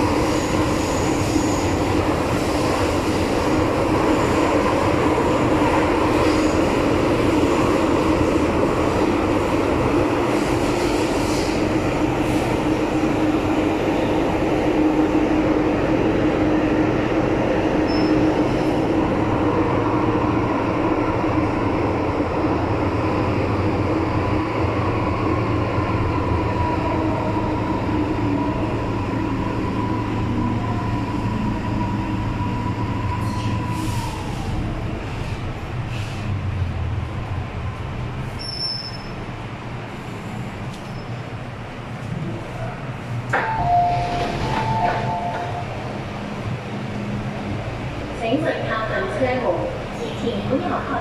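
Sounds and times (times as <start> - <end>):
thin train whine: 0.0 - 51.0
train wheels rumbling on rail: 0.0 - 51.0.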